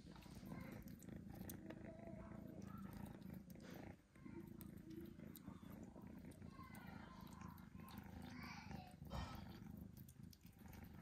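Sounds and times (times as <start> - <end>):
kitten purring: 0.0 - 11.0.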